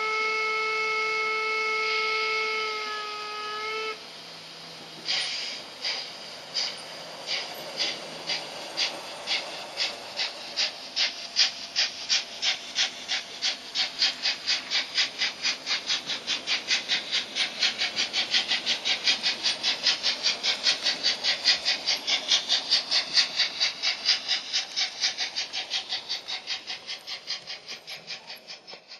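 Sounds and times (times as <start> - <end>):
model steam locomotive chuffing: 0.0 - 28.9.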